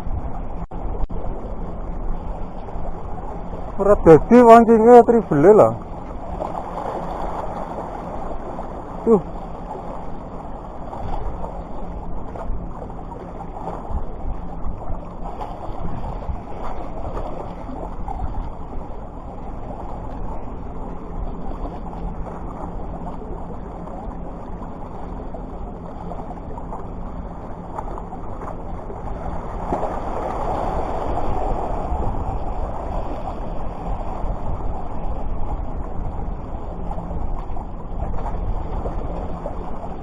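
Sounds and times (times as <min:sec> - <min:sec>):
wind rushing over microphone: 0:00.0 - 0:25.2, 0:27.1 - 0:40.0
surf washing: 0:00.0 - 0:40.0.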